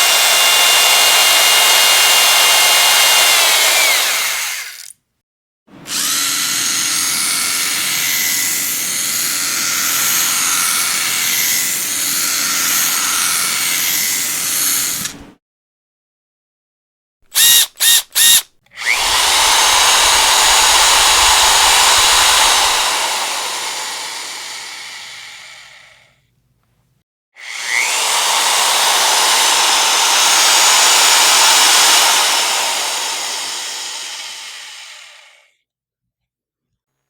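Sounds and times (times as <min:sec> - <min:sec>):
electric power drill motor: 0:00.0 - 0:04.9, 0:05.9 - 0:15.2, 0:17.3 - 0:26.1, 0:27.4 - 0:35.5.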